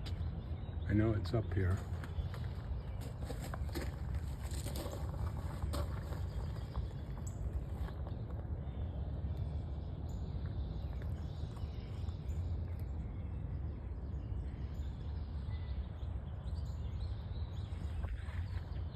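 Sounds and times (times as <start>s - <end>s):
low outdoor rumble: 0.0s - 18.9s.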